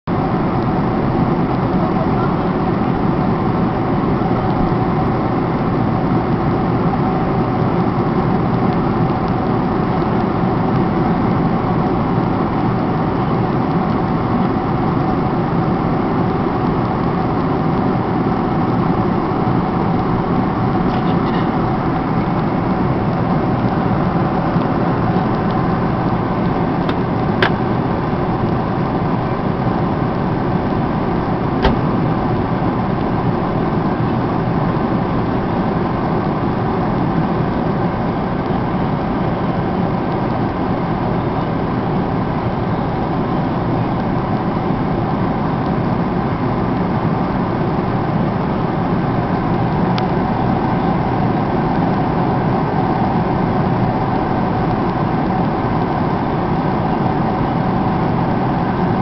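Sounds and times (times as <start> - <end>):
jet engines and airflow rushing: 0.0 - 59.0
faint steady hum: 0.1 - 59.0.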